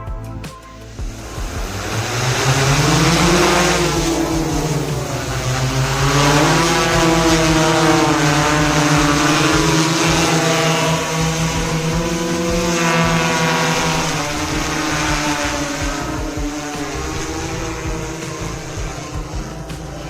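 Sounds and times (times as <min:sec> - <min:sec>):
drone propellers and motor hum: 0:00.0 - 0:20.0.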